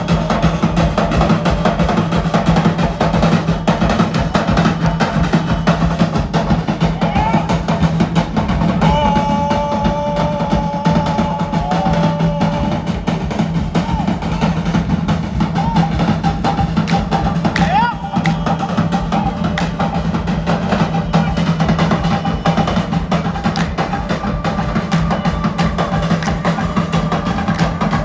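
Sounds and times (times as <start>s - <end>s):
deep drum beat: 0.0s - 28.0s
fast dense drumming: 0.0s - 28.0s.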